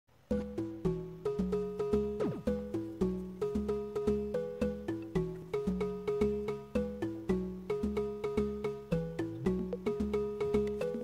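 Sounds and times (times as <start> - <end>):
bouncy tune of sharp notes: 0.3 - 11.0.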